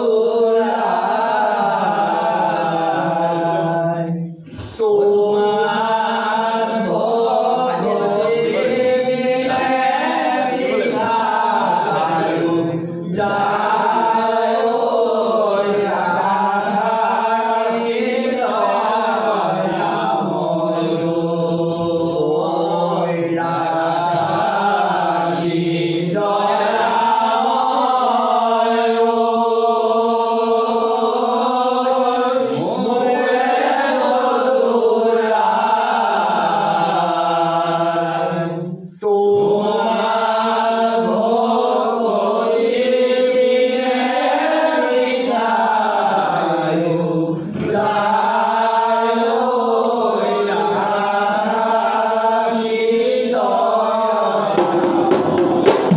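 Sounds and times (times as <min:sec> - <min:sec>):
men chanting a hymn in unison: 0:00.0 - 0:55.9.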